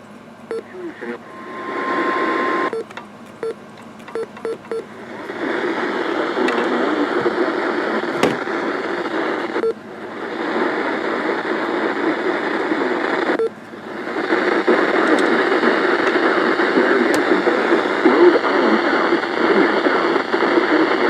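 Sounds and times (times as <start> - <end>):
radio static hiss: 0.5 - 21.0.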